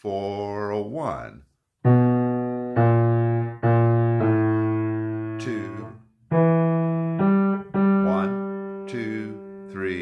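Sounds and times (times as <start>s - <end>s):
low piano notes: 1.8s - 10.0s.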